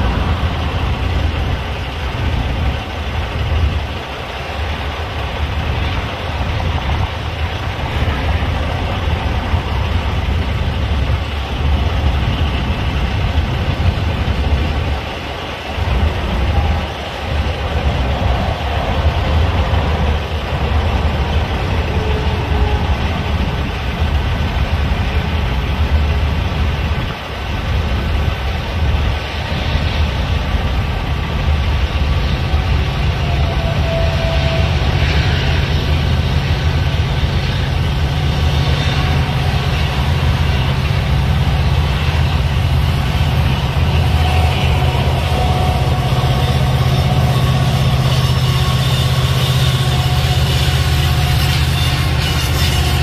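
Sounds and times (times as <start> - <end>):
steel wheels rumbling on rails: 0.0 - 53.0.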